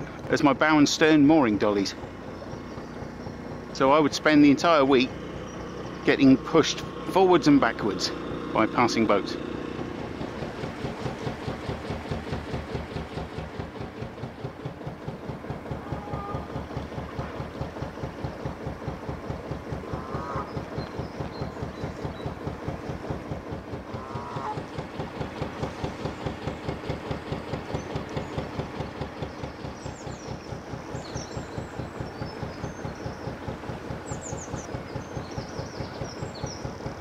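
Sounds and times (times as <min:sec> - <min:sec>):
diesel engine thumping: 0:00.0 - 0:37.0.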